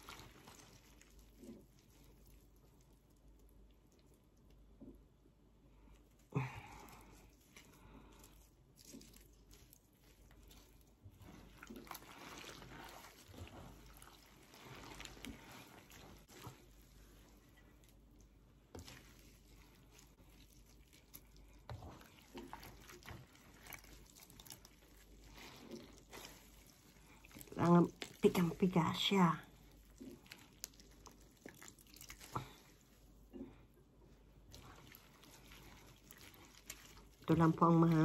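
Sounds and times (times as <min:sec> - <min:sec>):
wet squelching and dripping: 0:00.0 - 0:05.1, 0:05.7 - 0:38.0.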